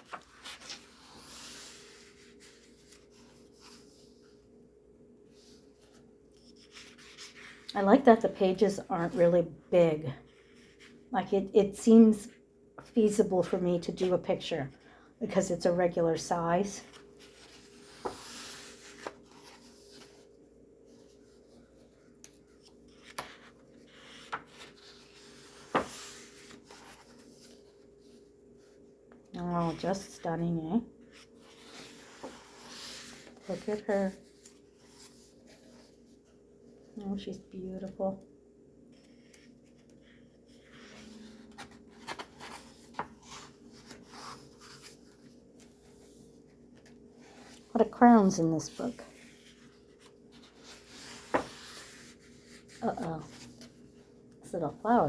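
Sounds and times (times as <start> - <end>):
thick paper pages rustling: 0.0 - 4.5, 5.3 - 9.3, 15.8 - 30.2, 31.0 - 37.0, 38.8 - 55.0.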